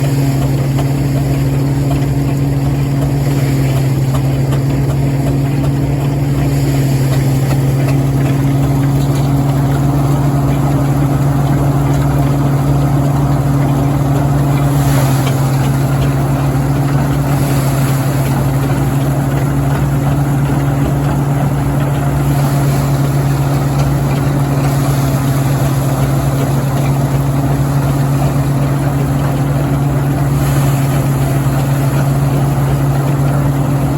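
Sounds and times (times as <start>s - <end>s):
steam engine running: 0.0s - 33.9s.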